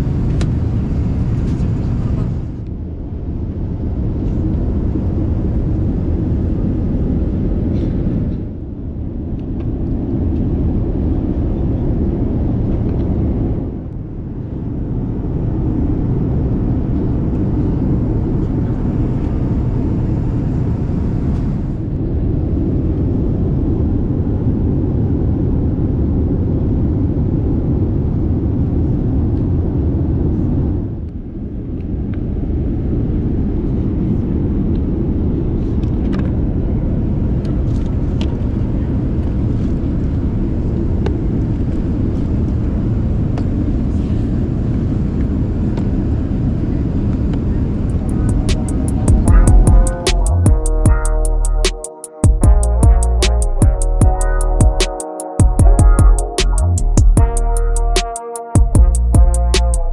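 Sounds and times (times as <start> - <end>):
airplane cabin engine rumble: 0.0 - 55.0, 55.6 - 59.9.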